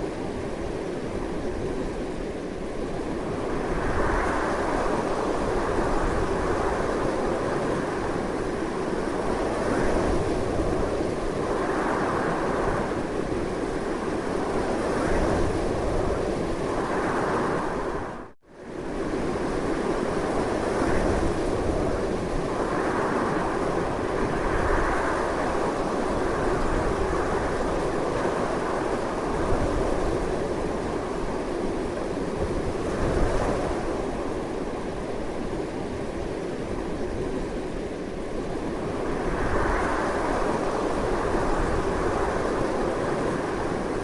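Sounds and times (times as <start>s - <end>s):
strong wind: 0.0s - 44.0s.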